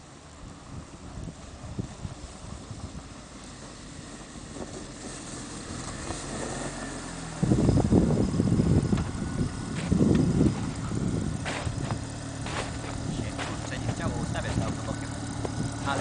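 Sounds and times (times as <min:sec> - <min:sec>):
car engine driving over snow: 0:00.0 - 0:16.0
rough low engine rumble: 0:00.0 - 0:16.0.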